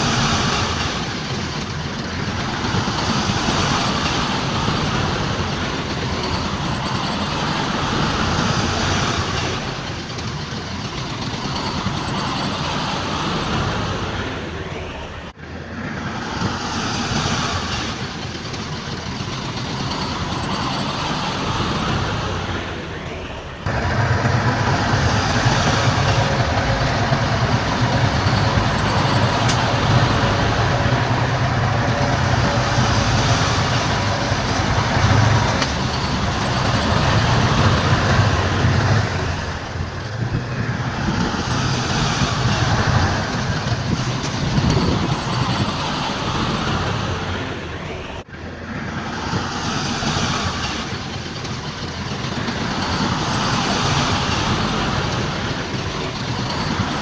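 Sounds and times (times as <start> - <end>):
construction machinery engine rumble: 0.0 - 57.0.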